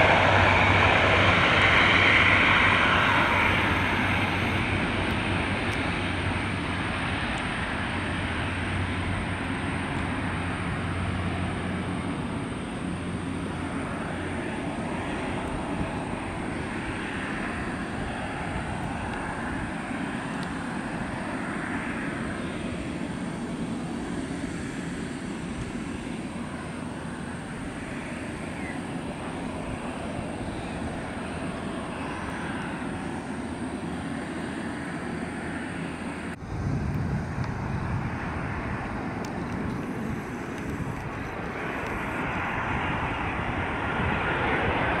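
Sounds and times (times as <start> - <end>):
jet rumble on approach: 0.0 - 45.0
turboprop engine drone: 0.0 - 45.0.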